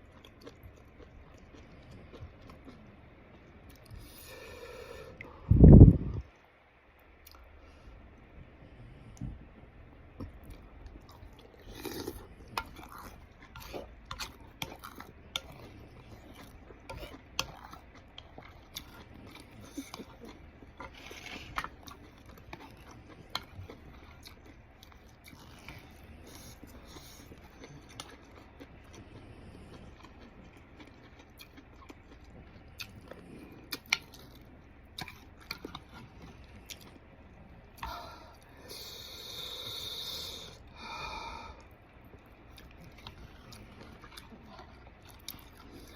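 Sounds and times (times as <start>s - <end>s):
close chewing and mouth sounds: 0.0s - 40.8s, 41.4s - 45.9s.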